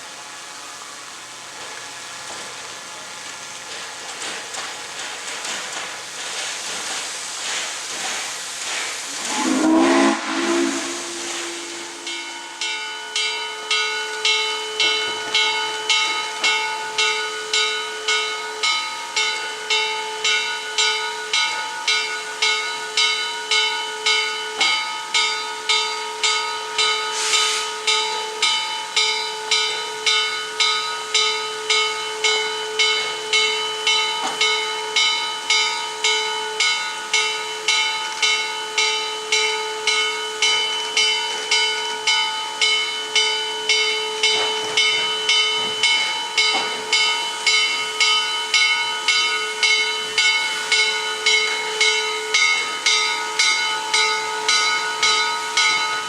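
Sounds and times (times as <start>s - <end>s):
steam hissing: 0.0s - 56.0s
locomotive bell ringing: 9.1s - 56.0s.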